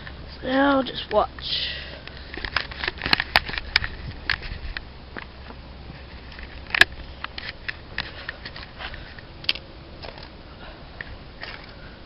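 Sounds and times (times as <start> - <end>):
handling clicks taps and scrapes: 0.0 - 10.3.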